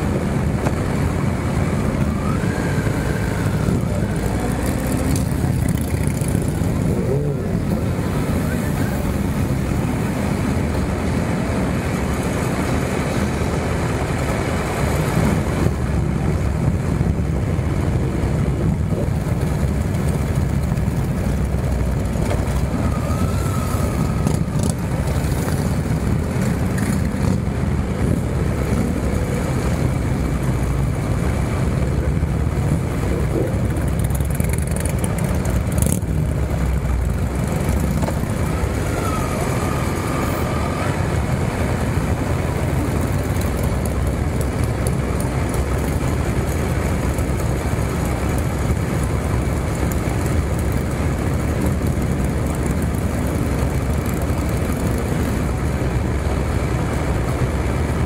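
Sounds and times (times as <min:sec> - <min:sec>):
motorcycle engines at low speed: 0:00.0 - 0:58.0.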